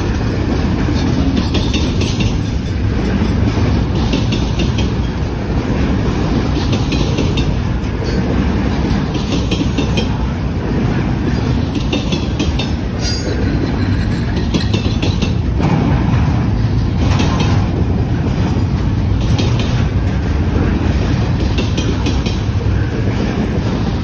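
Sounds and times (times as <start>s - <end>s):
train wheels rumbling on rail: 0.0s - 24.0s
wheels clickety-clack on rail joints: 0.0s - 24.0s.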